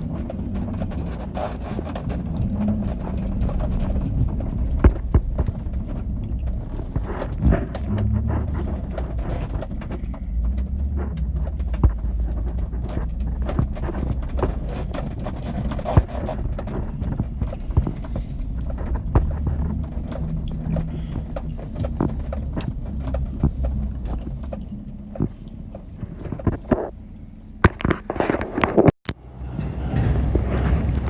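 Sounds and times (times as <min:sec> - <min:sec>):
knocks clicks and rattles: 0:00.0 - 0:26.7, 0:27.6 - 0:29.0
truck engine low rumble: 0:00.0 - 0:31.0.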